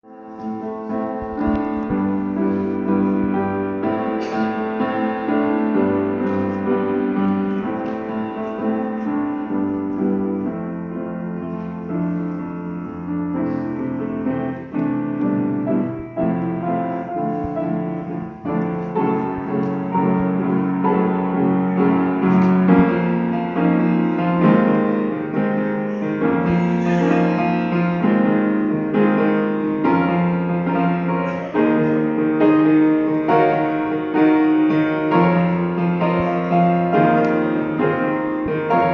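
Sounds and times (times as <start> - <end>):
slow solo piano piece: 0.0 - 38.9.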